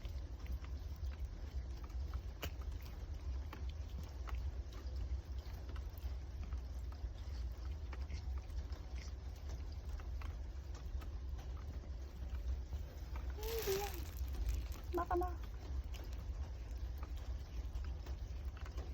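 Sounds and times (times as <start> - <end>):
cat chewing clicks: 0.0 - 13.4, 14.0 - 18.9
steady low hum: 0.0 - 18.9.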